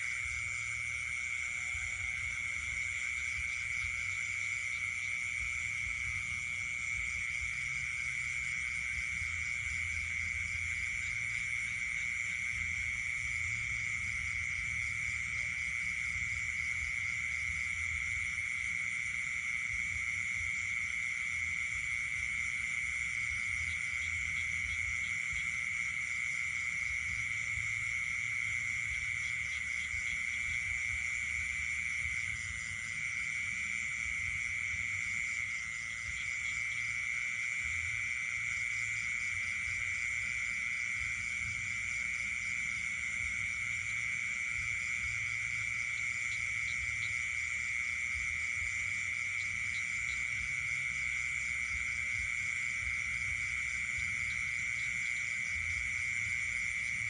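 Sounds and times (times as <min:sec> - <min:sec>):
frogs and insects trilling: 0:00.0 - 0:57.0.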